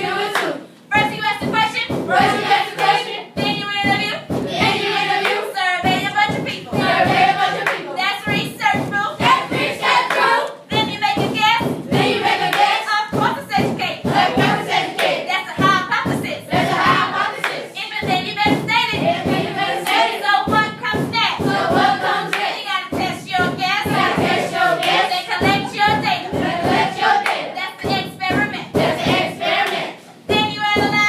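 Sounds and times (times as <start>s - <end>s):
children rapping in unison: 0.0s - 31.0s
hand claps beat: 0.2s - 31.0s.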